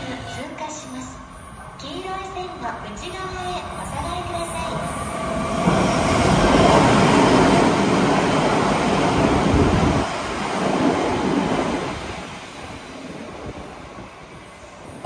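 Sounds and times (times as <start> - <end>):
electric train rumbling on track: 0.0 - 15.0.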